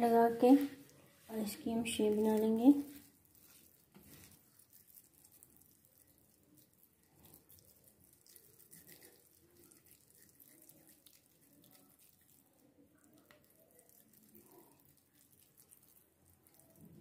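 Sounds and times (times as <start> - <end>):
hands squishing soft food mixture: 0.0 - 17.0.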